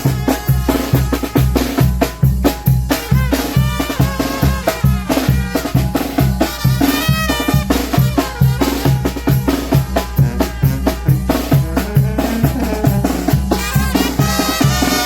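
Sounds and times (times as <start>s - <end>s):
banda music: 0.0s - 15.0s.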